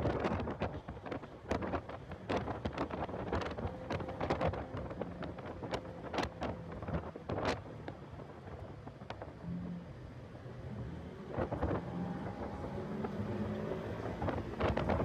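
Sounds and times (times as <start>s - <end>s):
wind buffeting microphone: 0.0s - 9.5s, 10.4s - 15.0s
car engine drone: 2.3s - 15.0s.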